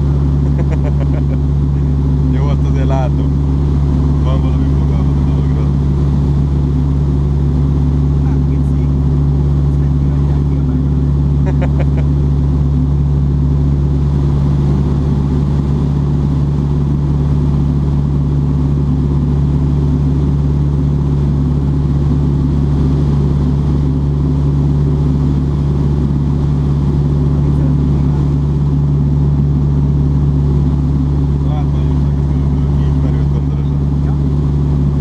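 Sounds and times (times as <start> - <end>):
light aircraft engine and propeller: 0.0 - 35.0.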